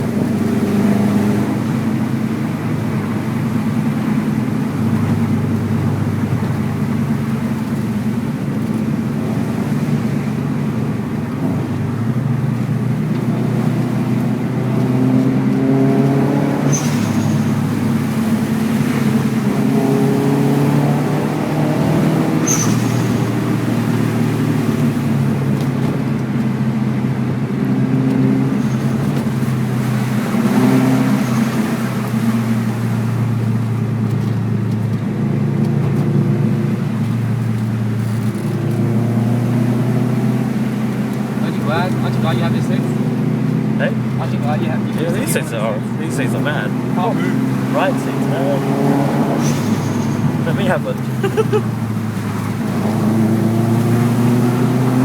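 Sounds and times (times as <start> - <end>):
turbocharged engine pulling under load: 0.0 - 55.0.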